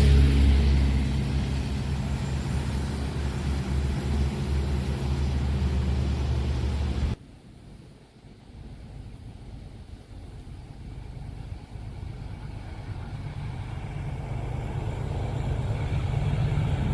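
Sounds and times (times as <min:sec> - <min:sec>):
diesel locomotive engine drone: 0:00.0 - 0:16.9
wheels rushing on rail: 0:00.0 - 0:16.9.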